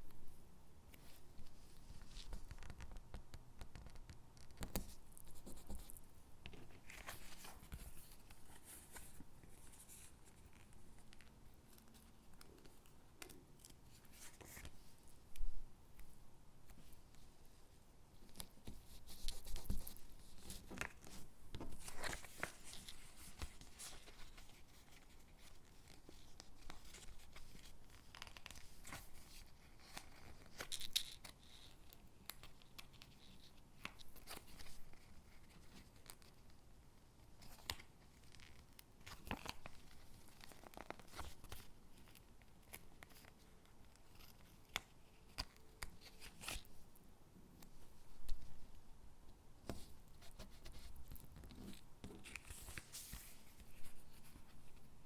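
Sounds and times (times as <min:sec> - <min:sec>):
soft paper handling: 0:00.0 - 0:55.0.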